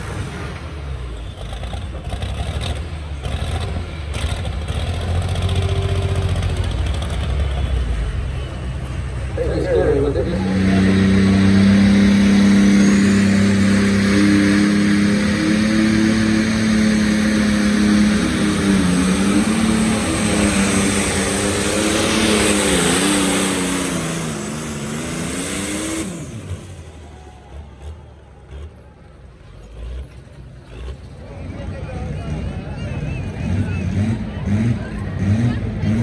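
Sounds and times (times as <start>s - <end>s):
diesel engine high-rev drone: 0.0s - 36.0s.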